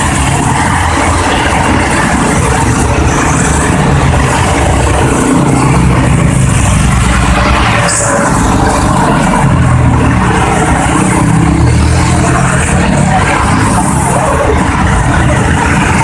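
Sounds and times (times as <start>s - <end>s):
traffic engines rumbling: 0.0s - 16.0s.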